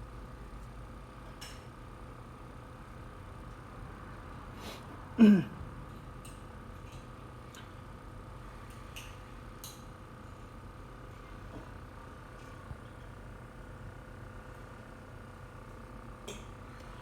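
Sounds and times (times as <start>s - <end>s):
steady equipment hum: 0.0s - 17.0s.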